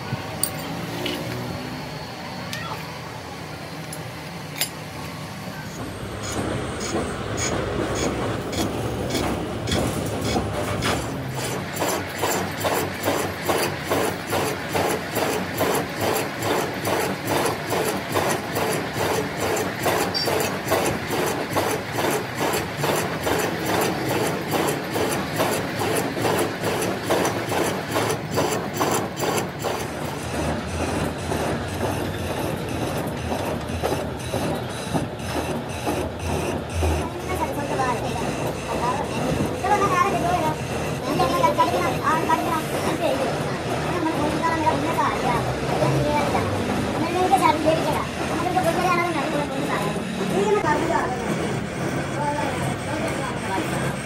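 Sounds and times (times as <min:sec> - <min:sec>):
rhythmic rasping metalwork strokes: 0:05.7 - 0:54.0.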